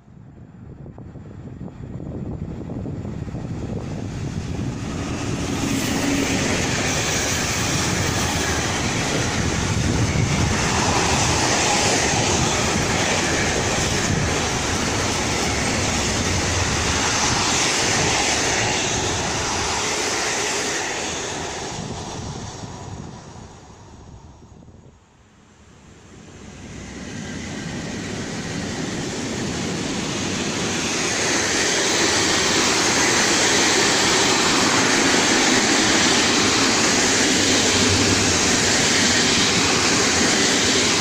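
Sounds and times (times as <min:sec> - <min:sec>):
freight train passing: 0:00.0 - 0:41.0.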